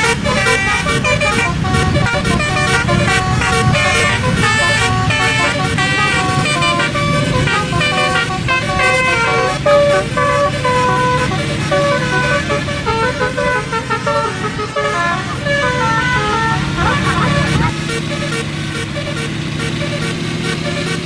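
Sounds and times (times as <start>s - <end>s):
bus engine running: 0.0s - 21.0s
multi-tone bus horn tune: 0.0s - 21.0s.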